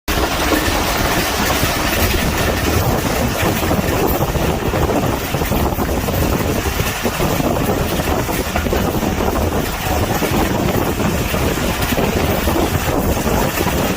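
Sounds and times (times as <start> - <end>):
train wheels rumbling on rails: 0.1 - 13.9.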